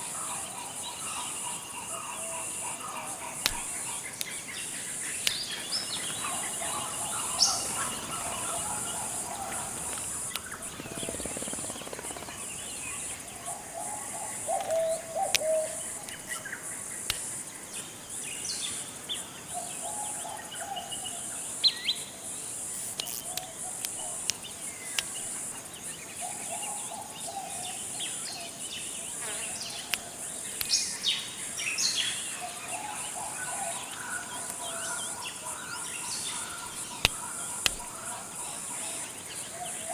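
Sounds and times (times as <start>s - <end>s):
birds chirping and warbling: 0.0s - 39.9s
insect drone: 0.0s - 39.9s.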